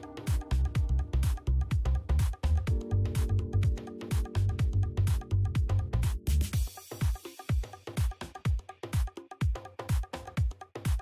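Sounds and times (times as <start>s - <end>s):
electronic dance music: 0.0s - 11.0s
kick drum thuds: 0.3s - 11.0s.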